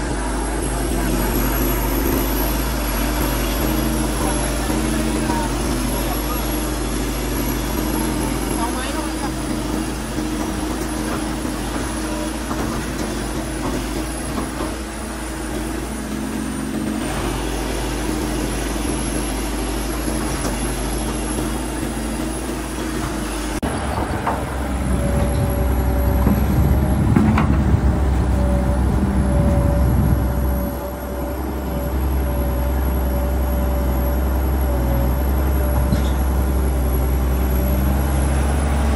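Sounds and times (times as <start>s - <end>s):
excavator diesel engine running: 0.0s - 38.9s
high engine tone: 0.0s - 38.9s.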